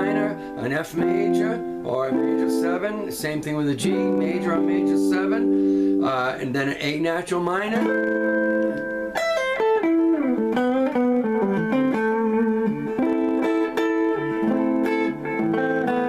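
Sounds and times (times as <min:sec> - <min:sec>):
guitar chords: 0:00.0 - 0:16.0
picked guitar notes: 0:00.0 - 0:16.0.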